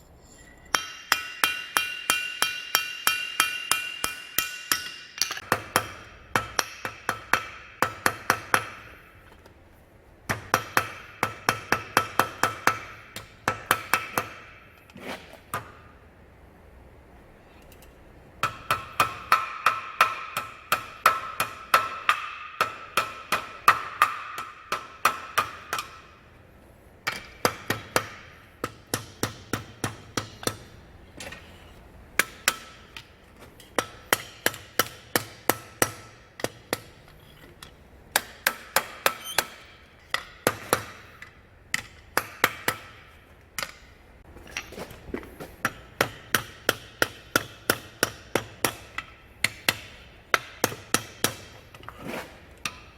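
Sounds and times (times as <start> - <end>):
hammer striking steel on anvil: 0.3 - 9.2, 10.3 - 14.8, 18.4 - 26.2, 27.0 - 31.4, 32.2 - 44.7, 45.6 - 51.6, 52.6 - 52.9.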